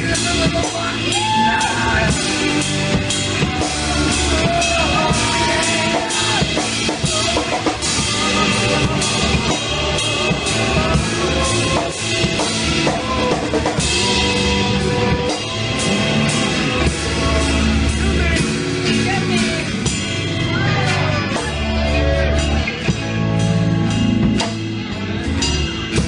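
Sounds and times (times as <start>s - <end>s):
drum kit playing: 0.0s - 26.0s
instrumental rock music: 0.0s - 26.0s.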